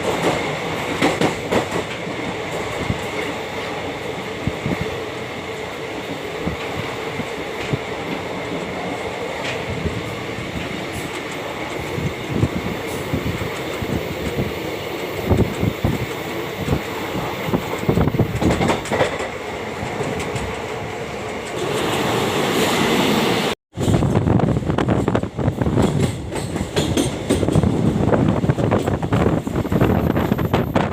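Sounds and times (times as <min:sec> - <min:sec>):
train running noise: 0:00.0 - 0:30.9.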